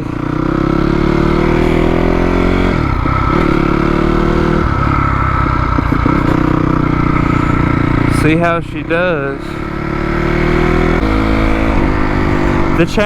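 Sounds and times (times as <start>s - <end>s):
dirt bike engine accelerating: 0.0s - 13.0s.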